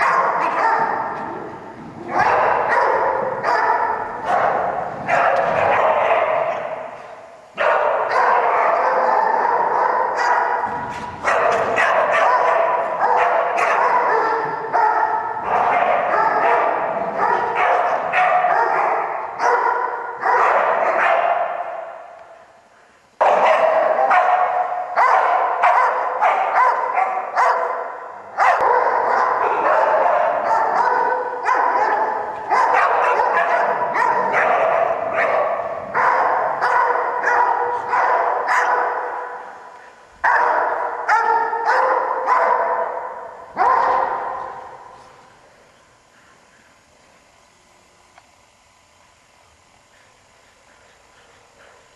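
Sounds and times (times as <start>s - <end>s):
dogs barking: 0.0s - 22.4s, 23.2s - 46.4s.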